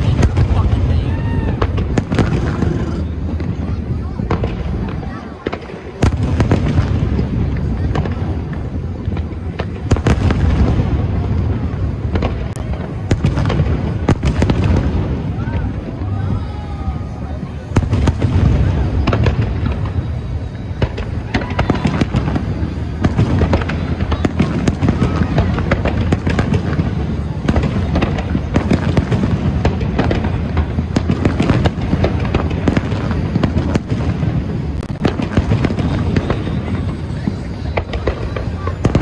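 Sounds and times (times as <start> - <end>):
firework shells bursting: 0.0 - 15.9, 17.7 - 39.0.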